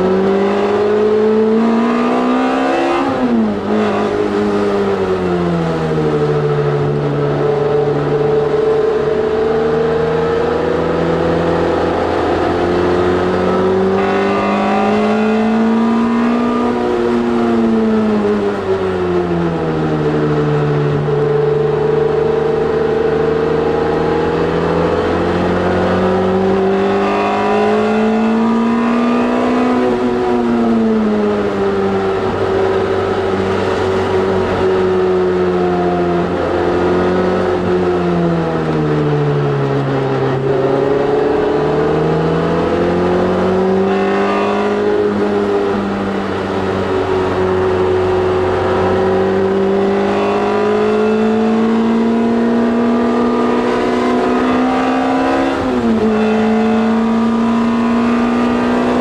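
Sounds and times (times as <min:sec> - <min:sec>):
car engine revving: 0:00.0 - 0:59.0
road noise: 0:00.0 - 0:59.0.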